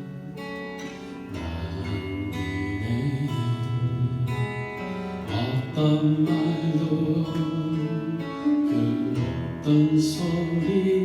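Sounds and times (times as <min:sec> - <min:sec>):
strummed acoustic guitar chords: 0:00.0 - 0:11.0.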